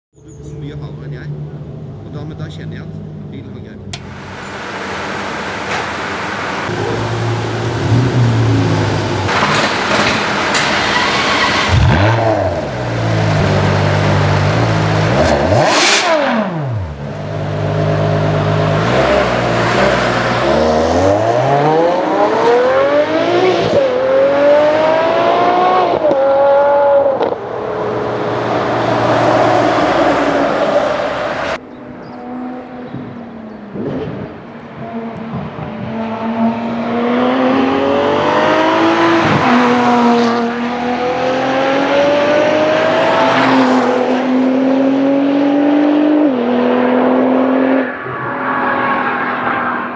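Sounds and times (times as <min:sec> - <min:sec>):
sports car engine revving: 0:03.9 - 0:47.9
car accelerating away: 0:03.9 - 0:49.9.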